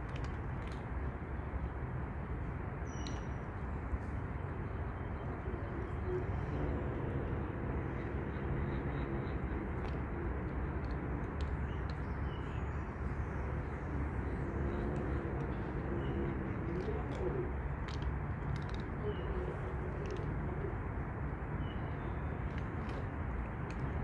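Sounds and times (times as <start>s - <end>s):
low outdoor background rumble: 0.0s - 24.0s
faint droning tone: 2.8s - 24.0s.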